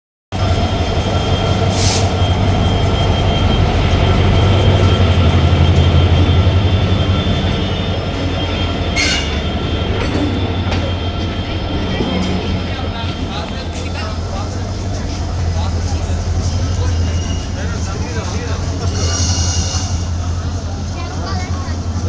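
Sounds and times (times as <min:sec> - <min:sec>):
locomotive low drone: 0:00.4 - 0:22.0.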